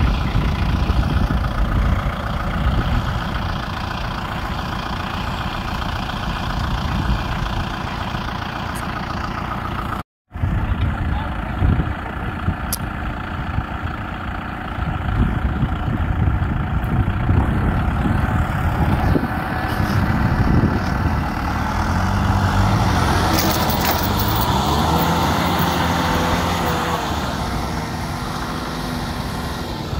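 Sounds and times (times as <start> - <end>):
tractor diesel engine revving: 0.0 - 29.9.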